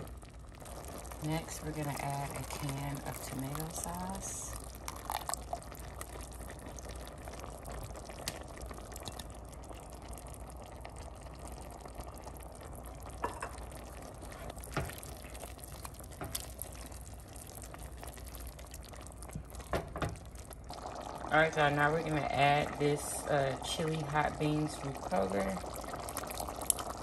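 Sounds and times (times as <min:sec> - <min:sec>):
meat sizzling in a pot: 0:00.0 - 0:27.0.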